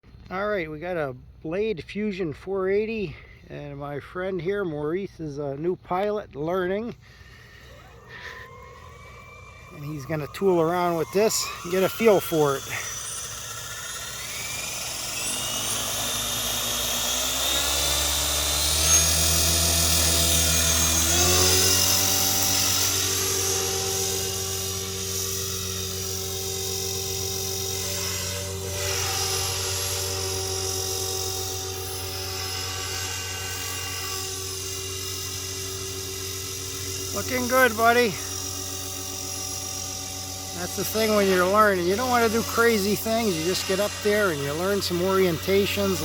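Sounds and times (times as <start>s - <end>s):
rc helicopter motor whine: 6.9s - 46.0s.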